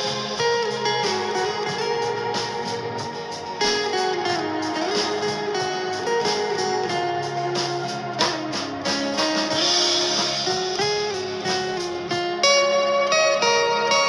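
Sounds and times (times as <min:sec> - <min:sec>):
guitar instrumental music: 0:00.0 - 0:14.0.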